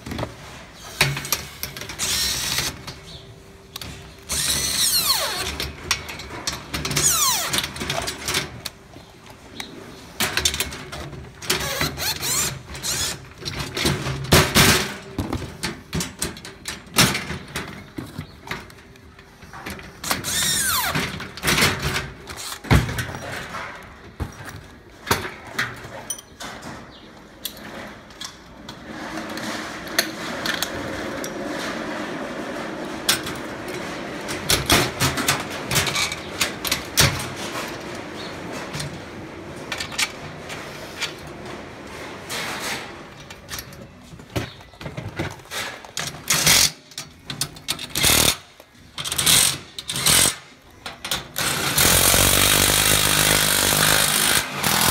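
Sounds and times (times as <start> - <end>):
metal parts clanking: 0.0 - 54.9.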